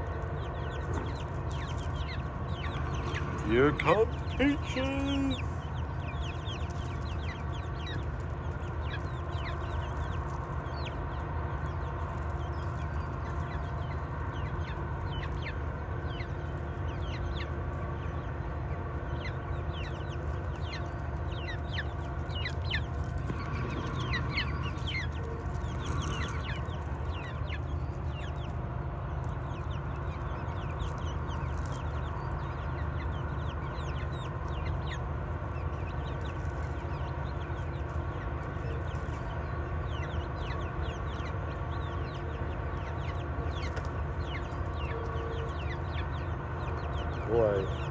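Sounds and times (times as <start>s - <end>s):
hens clucking and chirping: 0.0s - 47.9s
steady low hum: 0.0s - 47.9s.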